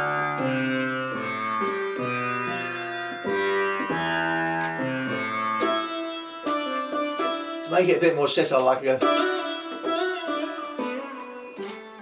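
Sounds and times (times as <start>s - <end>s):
keyboard sitar melody: 0.0s - 12.0s.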